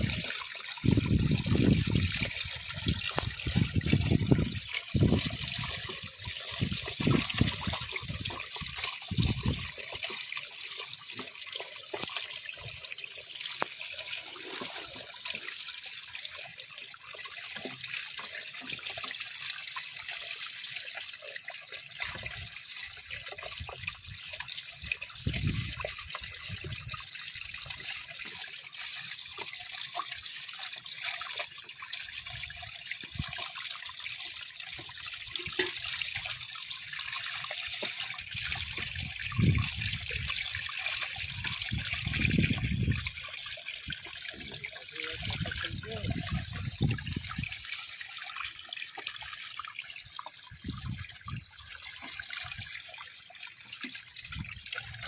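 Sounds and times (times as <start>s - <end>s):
shallow water running and splashing: 0.0s - 55.0s.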